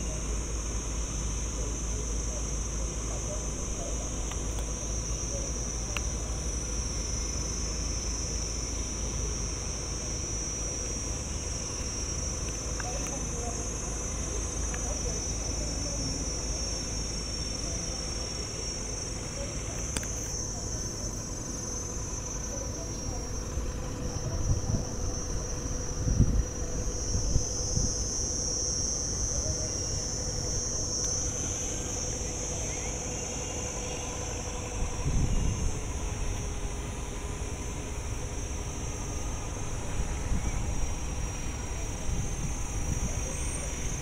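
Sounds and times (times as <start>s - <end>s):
faint steady hum: 0.0s - 44.0s
insects chirring: 0.0s - 44.0s.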